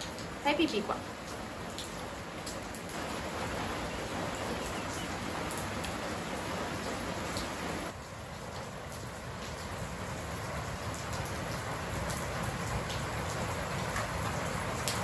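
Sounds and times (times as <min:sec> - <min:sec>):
rain drop ticks: 0:00.0 - 0:15.0
steady rain falling: 0:00.0 - 0:15.0.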